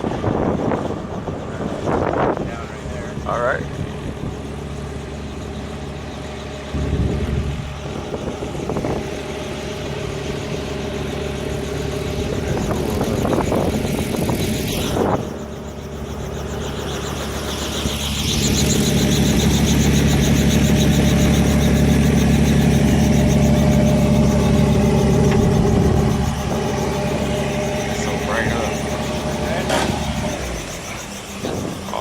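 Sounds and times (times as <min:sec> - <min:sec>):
vehicle engine humming: 0:00.0 - 0:32.0.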